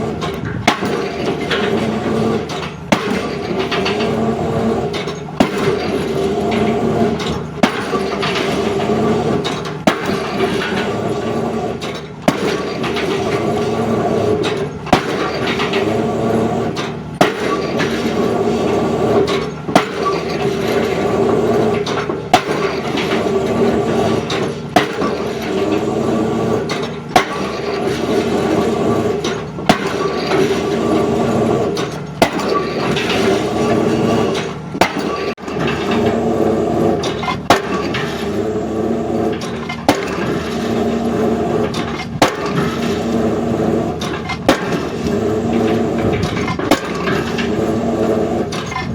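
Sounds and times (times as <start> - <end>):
excavator engine and hydraulics: 0.0 - 48.9
drop hammer striking concrete: 0.2 - 4.1, 7.1 - 16.0, 16.6 - 36.2, 39.2 - 47.8.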